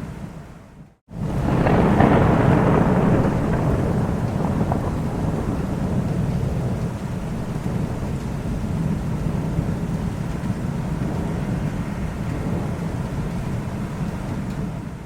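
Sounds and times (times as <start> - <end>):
rain: 0.0 - 15.0
low rumble of thunder: 1.1 - 15.0.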